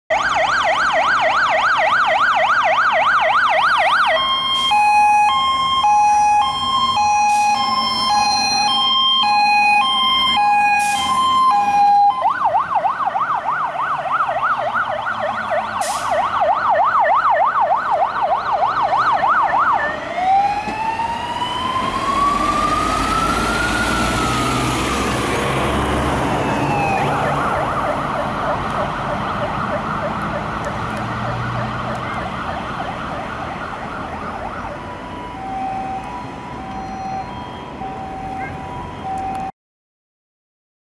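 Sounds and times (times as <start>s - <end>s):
fire engine siren: 0.1s - 39.5s
diesel engine rumbling: 4.1s - 39.5s.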